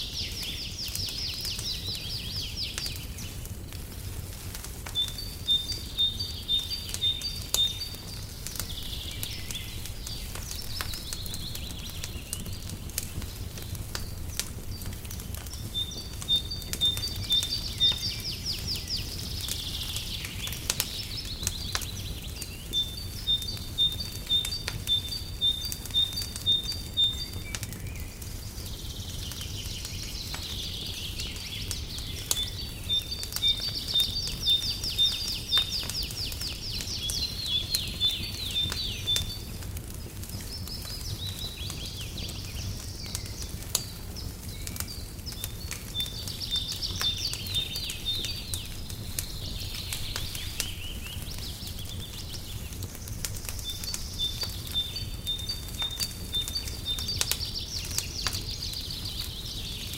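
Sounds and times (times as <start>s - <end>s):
birdsong trills: 0.0s - 3.5s, 4.6s - 59.9s
wood fire crackling: 0.0s - 59.9s.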